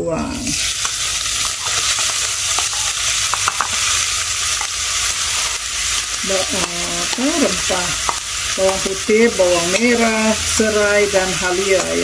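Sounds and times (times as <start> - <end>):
paste sizzling in hot oil: 0.4 - 12.0.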